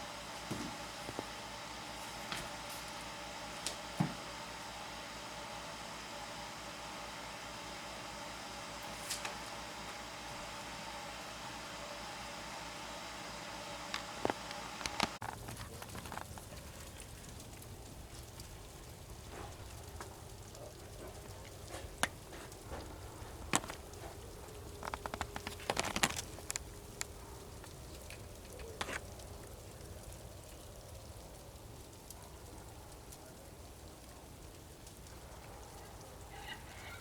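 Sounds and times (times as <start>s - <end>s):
faint steady hiss: 0.0s - 37.0s.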